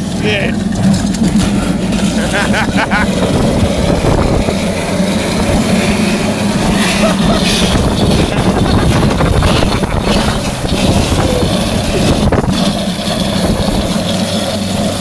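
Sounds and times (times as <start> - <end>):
vehicle rumble and road noise: 0.0 - 15.0
wind buffeting microphone: 0.0 - 15.0.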